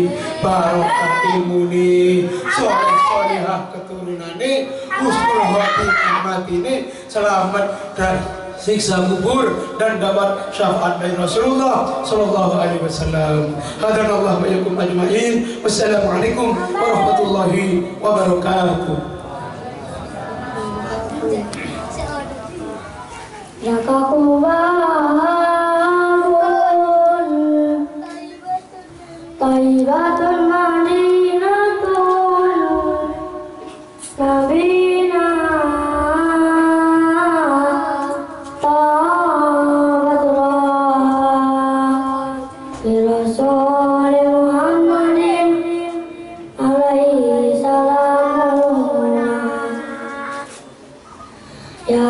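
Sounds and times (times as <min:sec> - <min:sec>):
boy singing into microphone: 0:00.0 - 0:19.1, 0:20.0 - 0:52.0.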